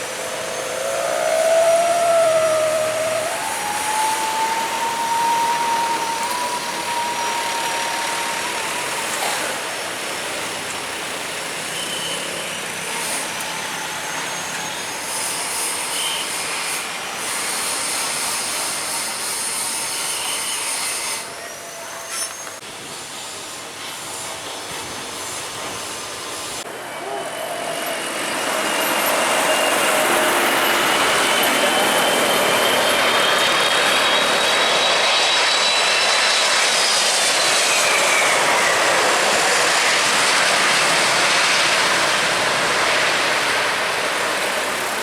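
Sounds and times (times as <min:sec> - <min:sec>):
jet engines rushing and whining: 0:00.0 - 0:21.4, 0:22.3 - 0:45.0.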